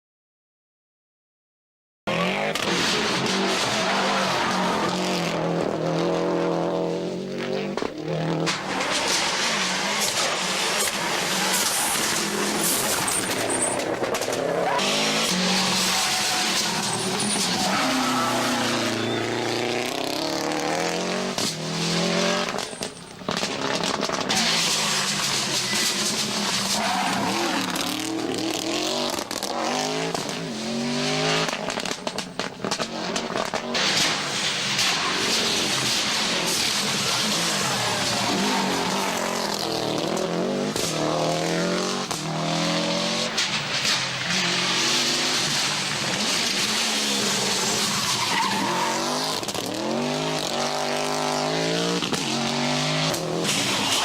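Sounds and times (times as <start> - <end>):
rally car engine revving: 2.1 - 54.0.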